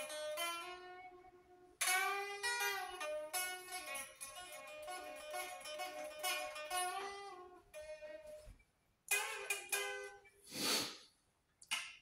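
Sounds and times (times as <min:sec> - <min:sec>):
electric guitar playing: 0:00.0 - 0:08.5, 0:09.1 - 0:10.3.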